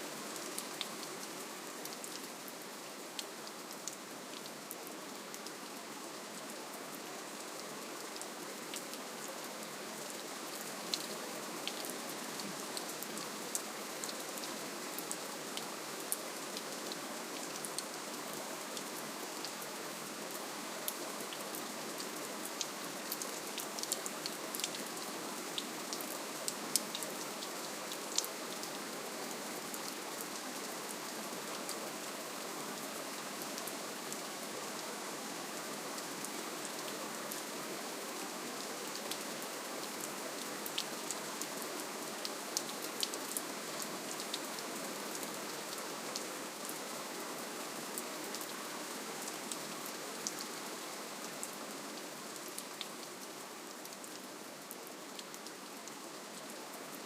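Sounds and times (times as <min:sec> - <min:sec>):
soft steady rainfall: 0:00.0 - 0:57.0.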